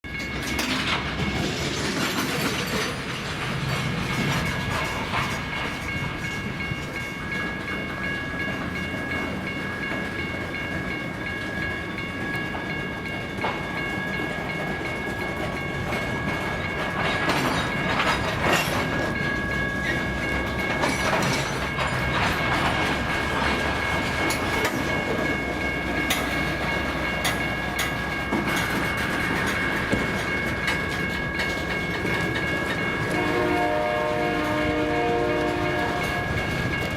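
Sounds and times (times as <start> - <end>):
freight cars rumbling: 0.1 - 12.2, 13.0 - 36.9
train wheels clacking over rail joints: 0.1 - 36.9.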